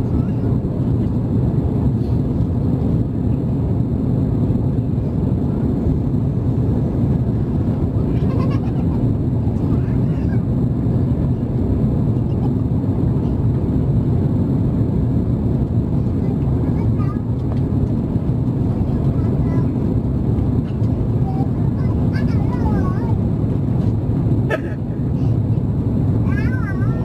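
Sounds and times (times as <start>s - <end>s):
jet engines and rushing airflow: 0.0s - 27.0s.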